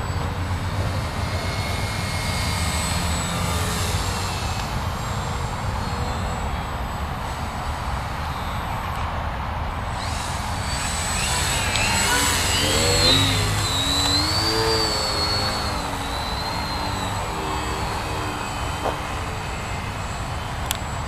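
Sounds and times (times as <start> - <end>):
model plane motor whining: 0.0 - 9.0, 9.9 - 21.0.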